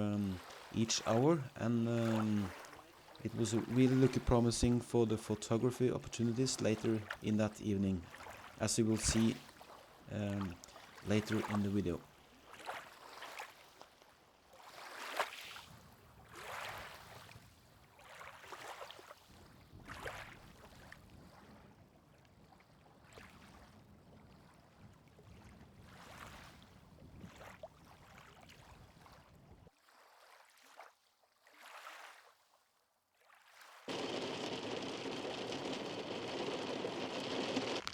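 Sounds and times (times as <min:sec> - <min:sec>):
small waves lapping: 0:00.0 - 0:37.9.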